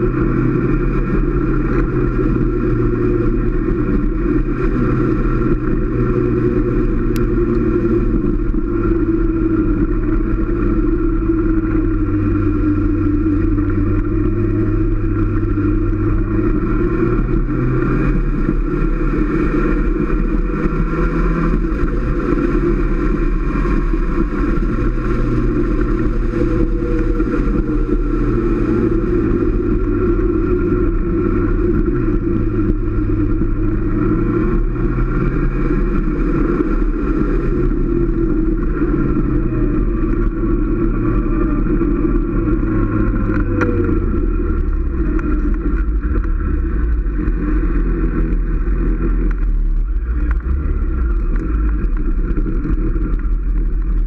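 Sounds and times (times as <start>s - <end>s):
low wind: 0.0s - 54.0s
motorcycle engine running: 0.0s - 54.0s
road rumble: 0.0s - 54.0s.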